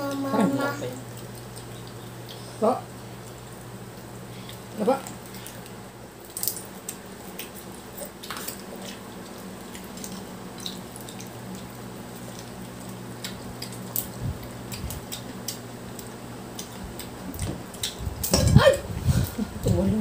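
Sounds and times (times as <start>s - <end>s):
wet eating sounds: 0.0s - 19.8s
steady low hum: 0.0s - 20.0s
squishy dripping noises: 1.0s - 18.4s.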